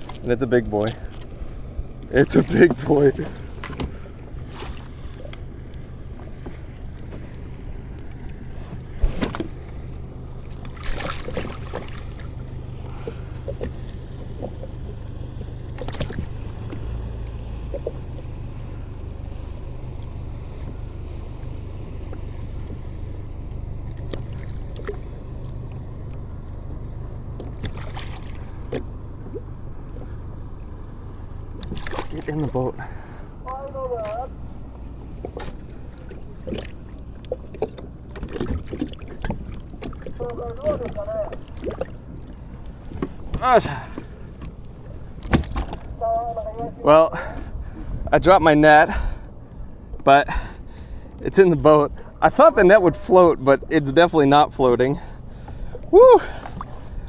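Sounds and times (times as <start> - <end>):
wind and water rumble: 0.0 - 57.0.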